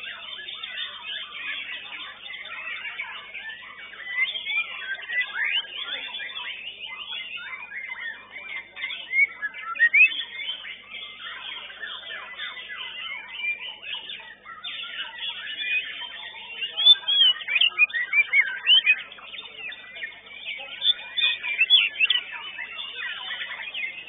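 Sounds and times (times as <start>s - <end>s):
bird singing chirps and whistles: 0.0s - 24.0s.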